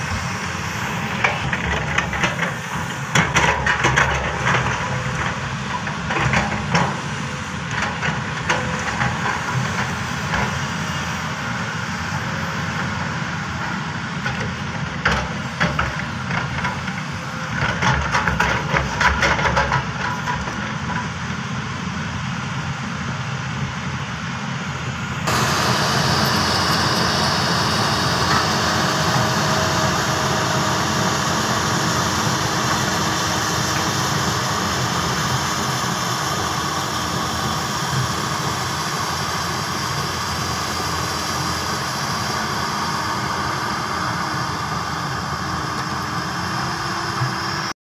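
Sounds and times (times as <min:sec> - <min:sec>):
excavator diesel engine running: 0:00.0 - 0:47.8.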